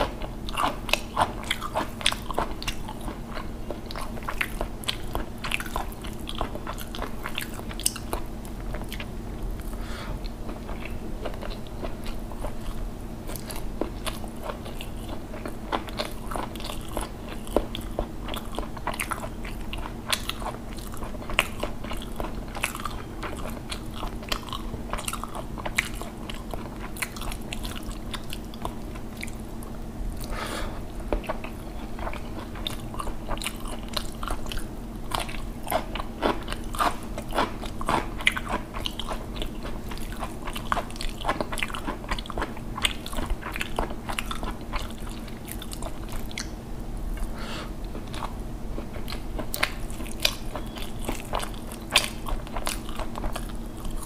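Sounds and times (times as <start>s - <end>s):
low steady hum: 0.0s - 54.0s
person chewing food: 0.0s - 54.0s.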